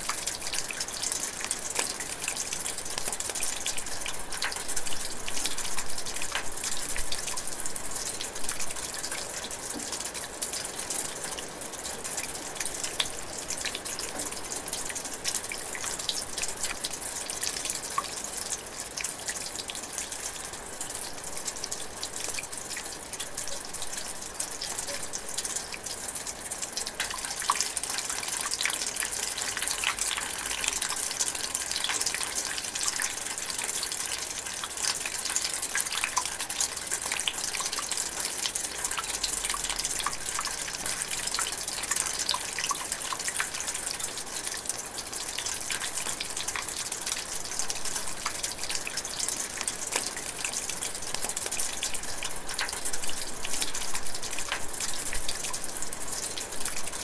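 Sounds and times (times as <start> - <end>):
light rain pattering on leaves: 0.0 - 57.0.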